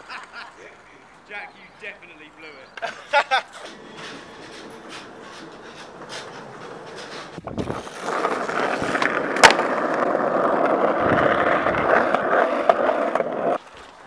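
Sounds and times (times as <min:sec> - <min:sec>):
skateboard wheels rolling on asphalt: 0:02.6 - 0:14.0.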